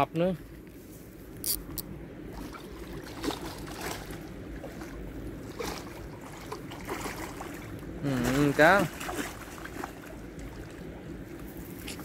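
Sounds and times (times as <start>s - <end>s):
low steady rumble: 0.0s - 12.0s
fish splashing at the surface: 2.3s - 12.0s.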